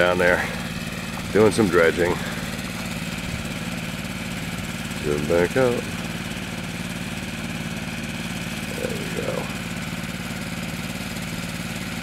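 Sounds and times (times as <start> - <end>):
small gasoline engine running: 0.0 - 12.0.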